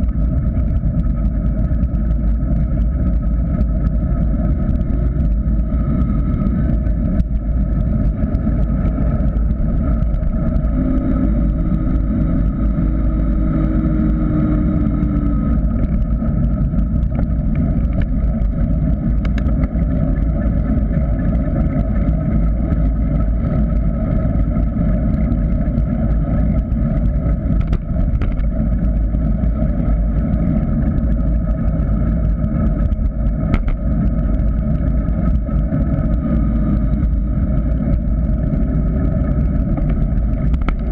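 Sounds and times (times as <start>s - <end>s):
bike tyres rolling on asphalt: 0.0s - 40.9s
small clicks from road bumps: 0.0s - 40.9s
wind rushing over microphone: 0.0s - 40.9s.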